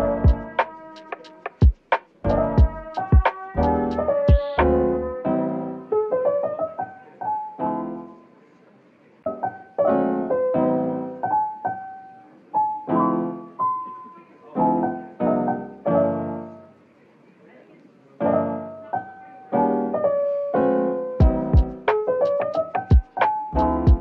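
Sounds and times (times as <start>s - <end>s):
slow piano music: 0.0s - 8.5s, 9.2s - 16.9s, 18.2s - 24.0s.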